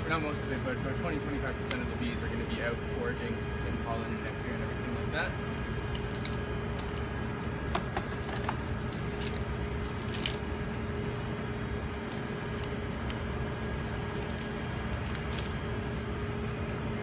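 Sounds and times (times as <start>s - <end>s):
constant low hum: 0.0s - 17.0s
traffic rumble: 0.0s - 17.0s.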